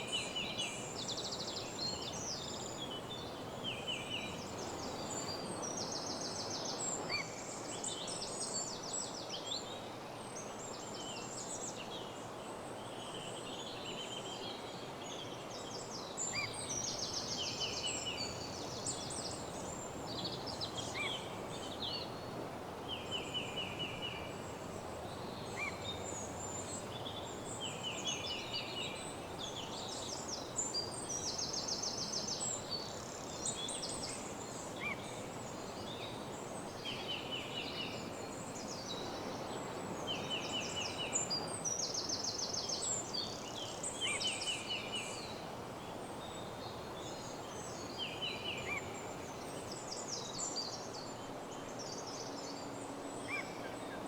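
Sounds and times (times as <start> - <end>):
songbirds trilling and chirping: 0.0 - 6.7, 16.2 - 54.0.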